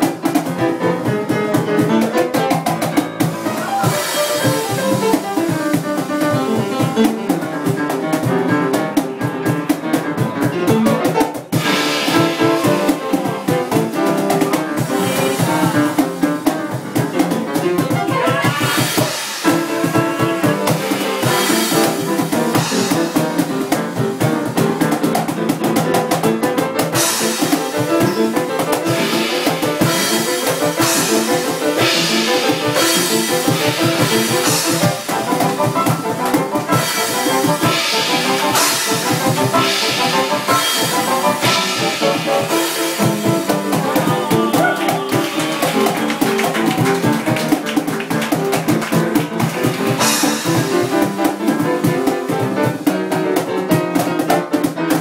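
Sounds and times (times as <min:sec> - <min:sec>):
drum kit: 0:00.0 - 0:55.0
jazz piano solo: 0:00.0 - 0:55.0.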